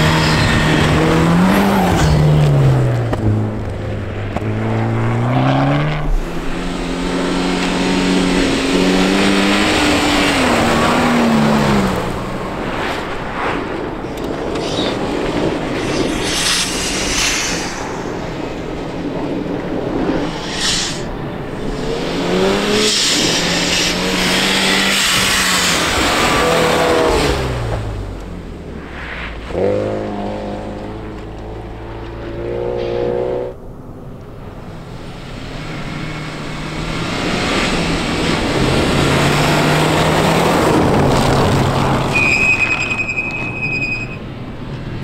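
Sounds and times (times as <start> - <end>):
rally car engines revving: 0.0 - 33.8, 34.4 - 43.4.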